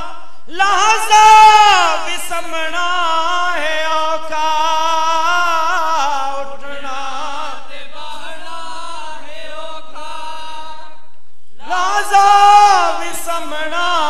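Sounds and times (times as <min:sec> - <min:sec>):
person chanting a lament: 0:00.0 - 0:11.0, 0:11.6 - 0:14.0.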